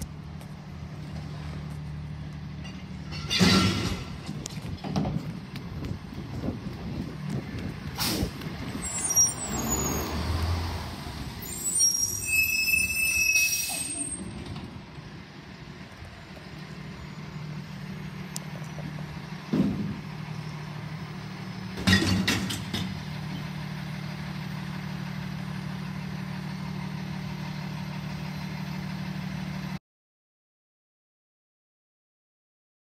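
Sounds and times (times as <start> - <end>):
truck engine running: 0.0 - 12.0, 14.0 - 29.8
brakes squealing: 0.0 - 29.8.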